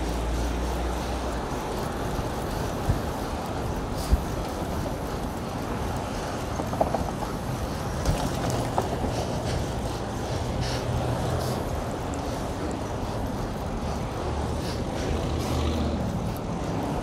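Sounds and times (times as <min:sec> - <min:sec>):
road and traffic noise: 0:00.0 - 0:17.0
wind on microphone: 0:00.0 - 0:17.0.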